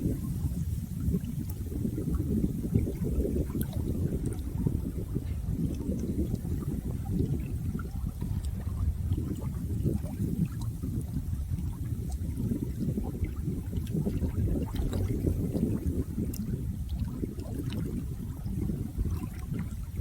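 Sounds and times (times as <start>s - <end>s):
flowing water burbling: 0.0s - 20.0s
small splashes and drips: 2.8s - 4.6s, 5.2s - 20.0s.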